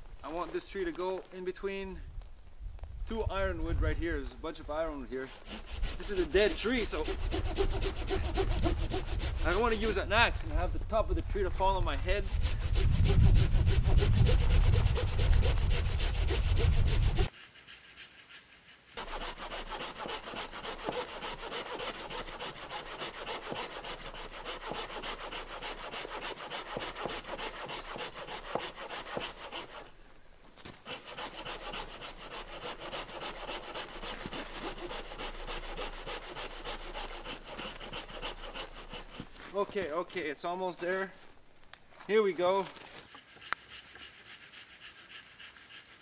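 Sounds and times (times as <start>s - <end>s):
hand saw cutting wood: 5.0s - 10.6s, 11.6s - 30.0s, 30.6s - 40.2s, 42.4s - 46.0s.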